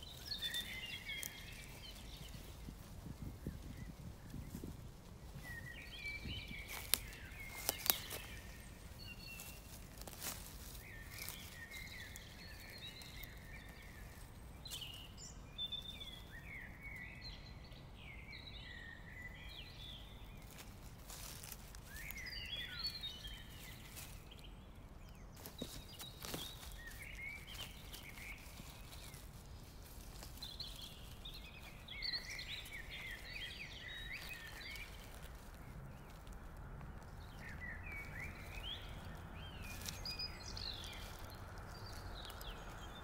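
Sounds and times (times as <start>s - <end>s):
hands rustling through dry grass: 0.0s - 17.9s, 19.3s - 43.0s
small birds twittering: 0.0s - 43.0s.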